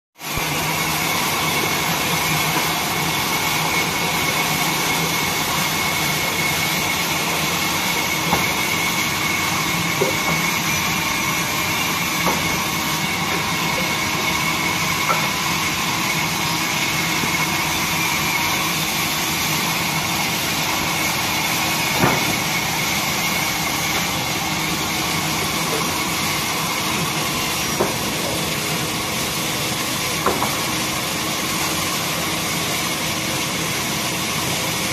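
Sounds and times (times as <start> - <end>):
band saw cutting log: 0.3 - 34.9.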